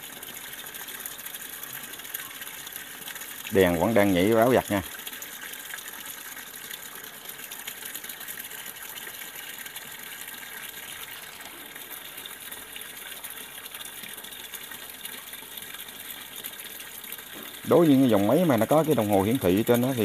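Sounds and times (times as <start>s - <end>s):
water gushing and splashing into tub: 0.0s - 20.0s.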